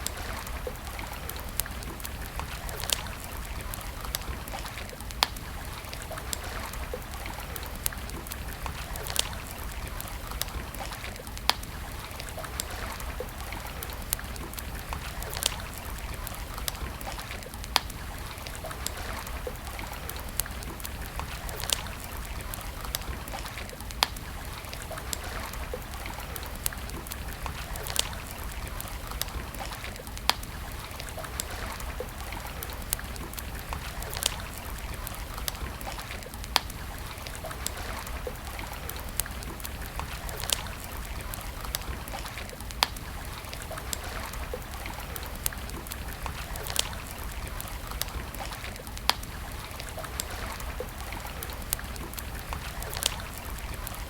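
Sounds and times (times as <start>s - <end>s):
campfire crackling and popping: 0.0s - 54.0s
running water: 0.0s - 54.0s.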